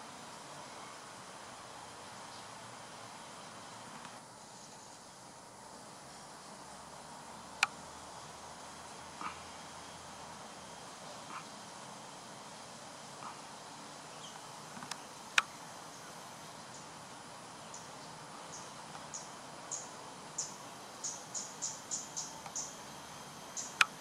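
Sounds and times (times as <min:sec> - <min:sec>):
steady outdoor hiss: 0:00.0 - 0:24.0.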